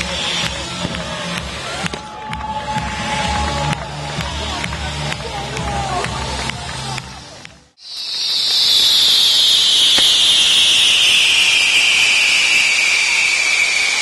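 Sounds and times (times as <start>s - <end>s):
firework wheel hissing and whistling: 0.0s - 5.0s, 5.9s - 14.0s.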